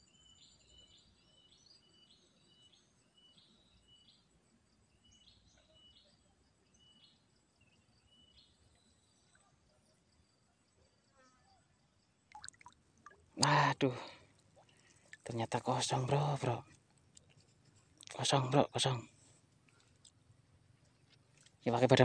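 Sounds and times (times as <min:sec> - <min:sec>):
faint bird chirps: 0:00.0 - 0:12.2, 0:14.6 - 0:22.0.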